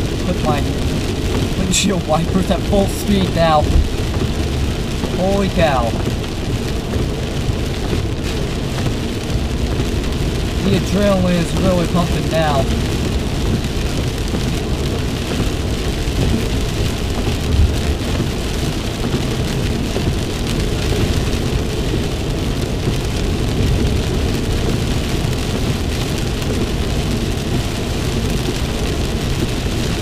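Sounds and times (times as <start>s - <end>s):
heavy rain on car roof: 0.0s - 30.0s
road noise: 0.0s - 30.0s.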